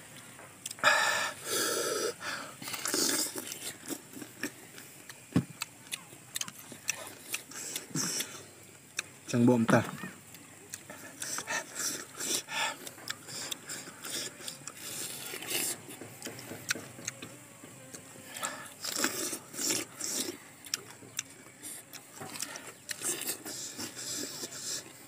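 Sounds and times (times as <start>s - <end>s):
crunchy fruit chewing: 1.4s - 25.0s.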